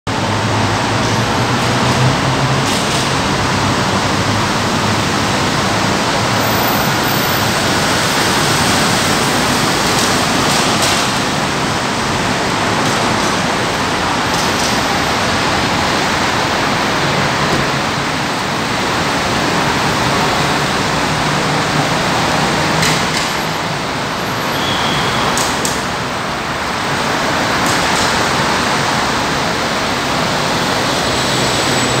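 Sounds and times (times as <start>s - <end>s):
traffic rushing in a tunnel: 0.0s - 32.0s.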